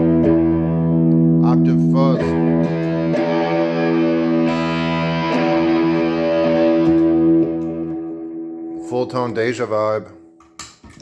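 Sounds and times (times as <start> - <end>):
distorted electric guitar chords: 0.0 - 10.4.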